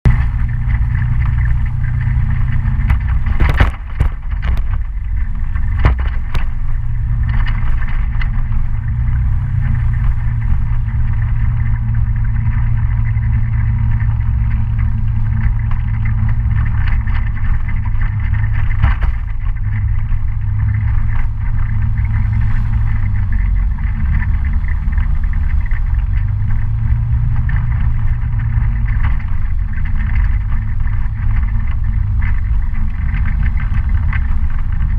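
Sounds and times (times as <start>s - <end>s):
scooter engine low rumble: 0.0s - 34.9s.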